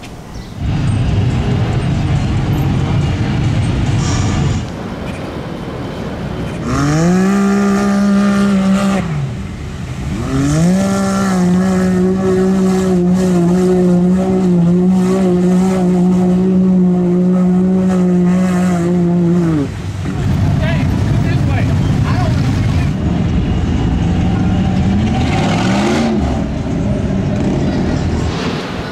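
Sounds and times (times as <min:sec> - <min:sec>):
off-road vehicle engine revving: 0:00.6 - 0:04.8, 0:06.4 - 0:28.9.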